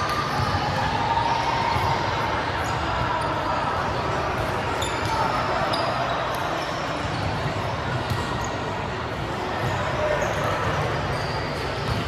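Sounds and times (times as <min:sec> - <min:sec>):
volleyball ball and play noise: 0:00.0 - 0:12.0.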